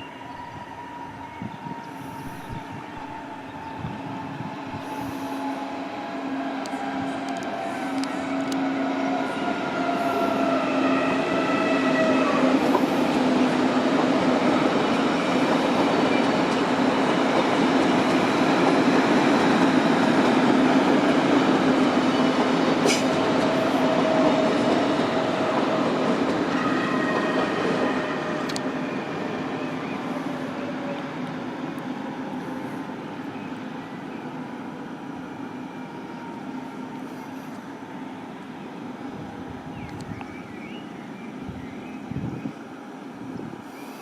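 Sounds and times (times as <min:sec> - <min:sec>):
train rolling past: 0:00.0 - 0:44.0.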